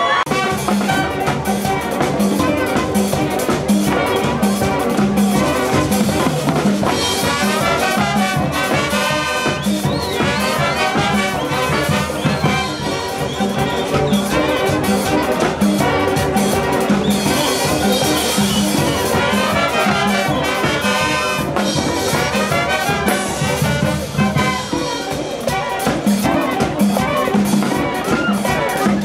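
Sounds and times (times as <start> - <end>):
brass band playing: 0.0 - 29.0
drum kit and percussion: 0.0 - 29.0.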